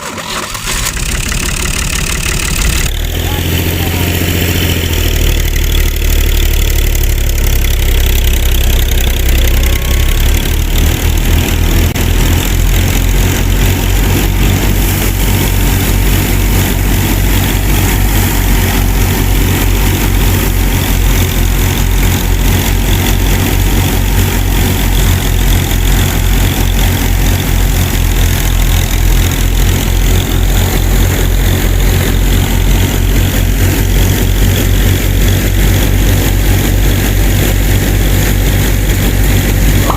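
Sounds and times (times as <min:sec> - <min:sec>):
engine chugging: 0:00.0 - 0:39.9.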